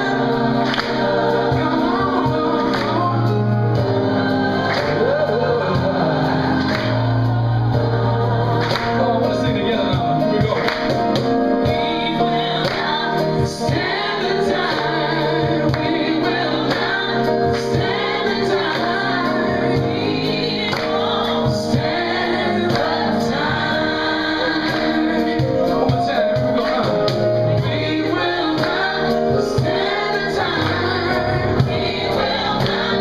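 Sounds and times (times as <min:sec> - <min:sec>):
singers singing together: 0:00.0 - 0:33.0.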